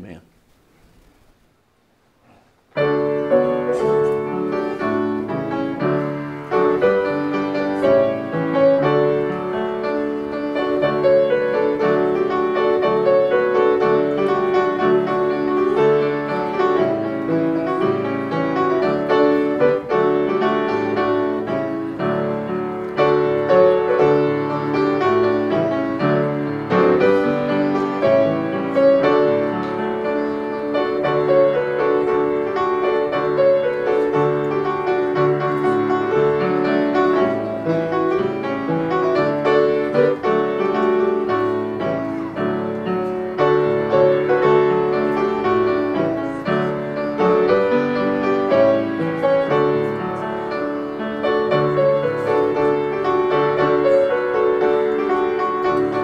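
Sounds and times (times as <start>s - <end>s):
solo piano playing: 2.7s - 56.0s.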